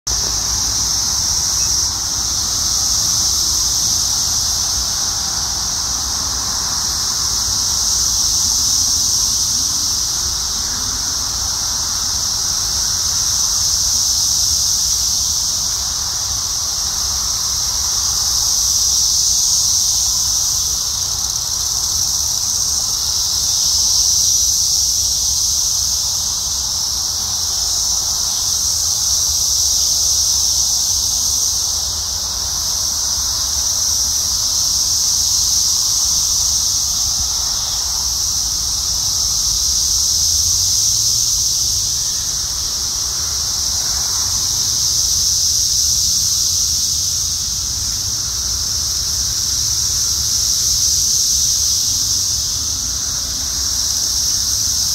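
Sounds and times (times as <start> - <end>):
cicadas buzzing drone: 0.1 - 54.9.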